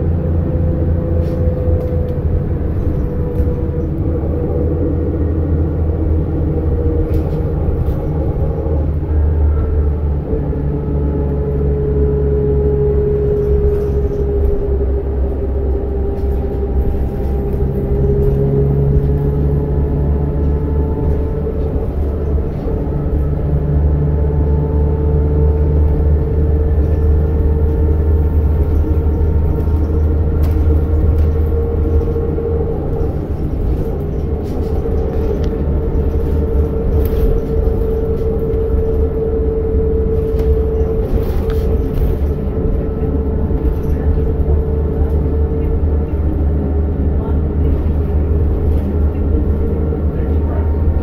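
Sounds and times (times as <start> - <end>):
bus engine rumble: 0.0 - 51.0.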